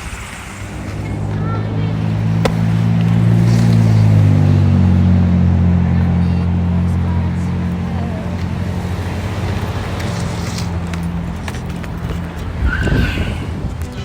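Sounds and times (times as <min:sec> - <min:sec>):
vehicle engine humming: 0:00.6 - 0:12.8.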